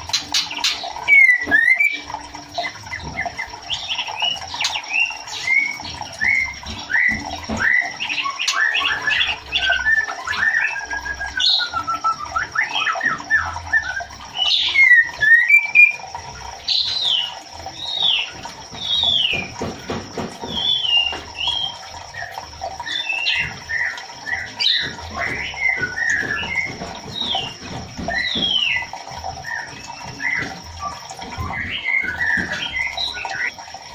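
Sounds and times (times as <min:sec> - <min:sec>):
bird chirping and squawking: 0:00.0 - 0:19.6, 0:20.4 - 0:33.5.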